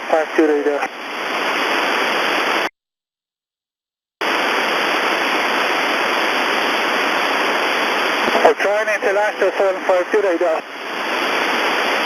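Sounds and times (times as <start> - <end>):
radio static hiss: 0.0 - 2.7, 4.2 - 12.0.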